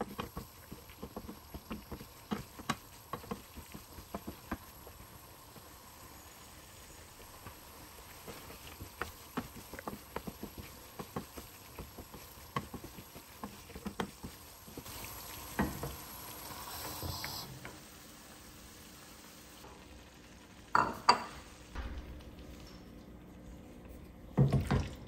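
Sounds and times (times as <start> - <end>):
food sizzling: 0.0 - 23.2.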